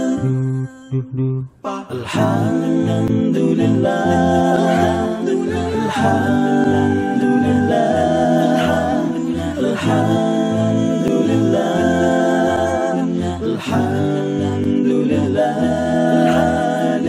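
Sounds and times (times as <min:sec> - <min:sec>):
voices singing in harmony: 0:00.0 - 0:01.0, 0:01.6 - 0:17.0
low vocal bass line: 0:00.0 - 0:17.0.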